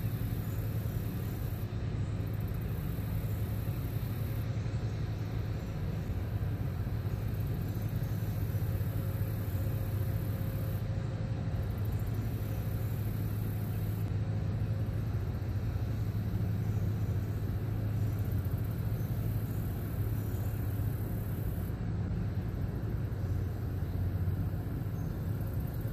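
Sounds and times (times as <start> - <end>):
low engine rumble: 0.0 - 25.9.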